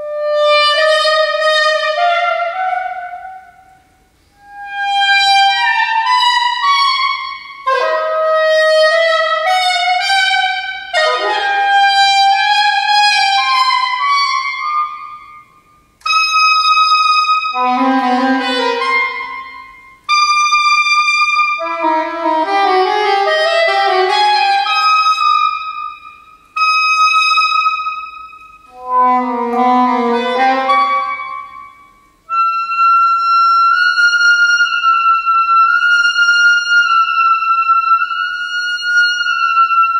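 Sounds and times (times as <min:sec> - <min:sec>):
solo saxophone playing: 0:00.0 - 0:15.4, 0:16.0 - 0:39.9.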